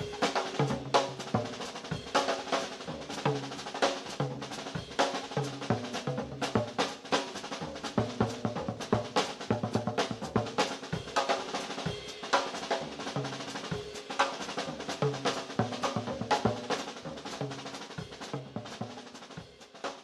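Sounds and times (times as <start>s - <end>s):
fast drum kit playing: 0.0s - 20.0s.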